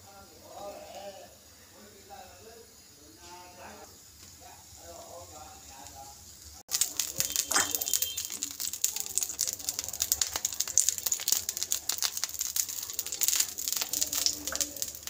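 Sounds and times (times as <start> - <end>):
water sizzling on hot pan: 0.1 - 15.0.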